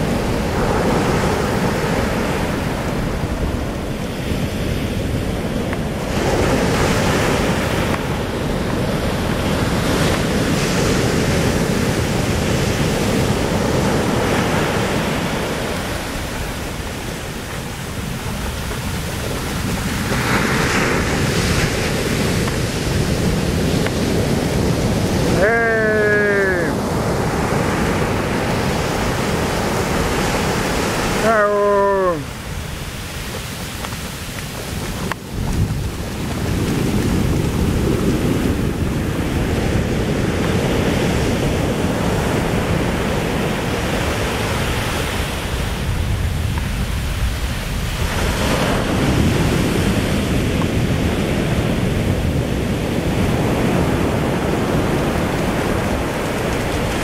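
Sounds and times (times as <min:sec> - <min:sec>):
ocean surf washing: 0:00.0 - 0:57.0
wind on microphone: 0:00.0 - 0:57.0.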